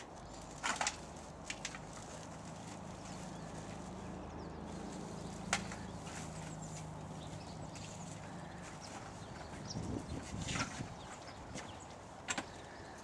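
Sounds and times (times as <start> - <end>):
footsteps on paved path: 0.0 - 13.0.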